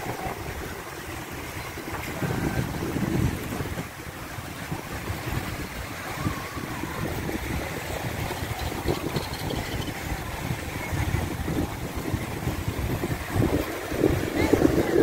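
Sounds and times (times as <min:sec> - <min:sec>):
choppy sea washing on shore: 0:00.0 - 0:15.0
wind buffeting microphone: 0:00.0 - 0:15.0.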